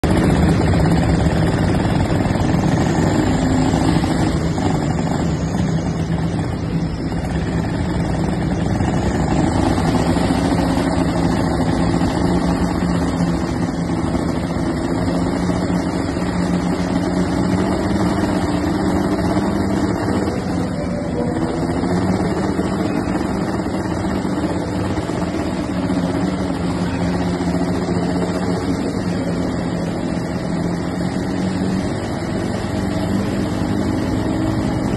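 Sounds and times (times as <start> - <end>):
diesel tractor engine under load: 0.0 - 34.9.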